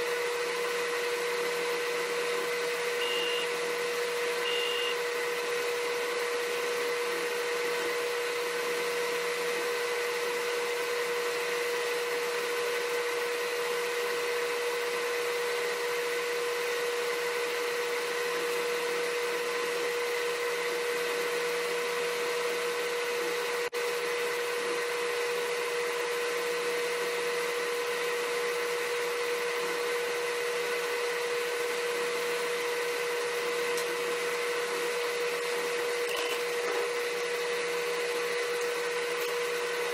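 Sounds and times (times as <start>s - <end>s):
machine whirring and humming: 0.0s - 39.9s.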